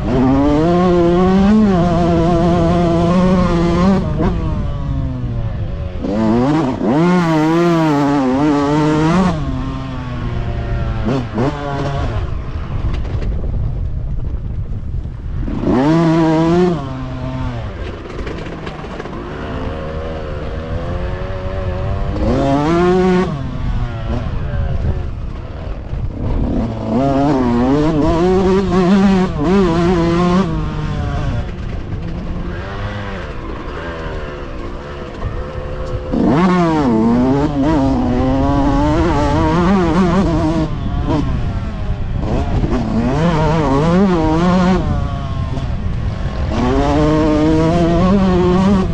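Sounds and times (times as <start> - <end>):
motocross bike engines revving: 0.0 - 13.5, 14.4 - 48.9.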